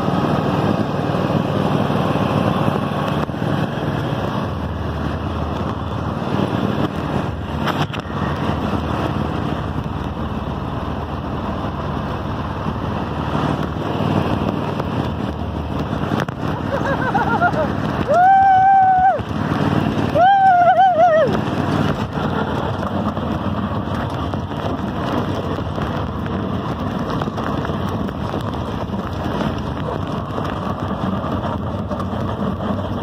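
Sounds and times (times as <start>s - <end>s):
lawn mower engine running: 0.0s - 18.1s, 19.1s - 20.2s, 21.2s - 33.0s.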